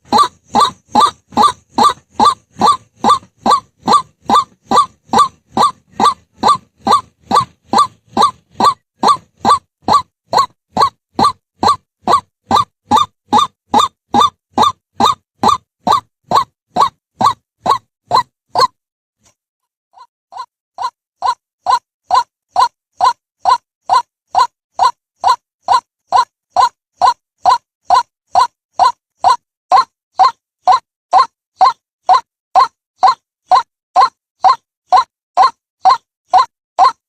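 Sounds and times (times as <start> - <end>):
bird harsh repeated call: 0.0 - 18.8, 20.0 - 37.0.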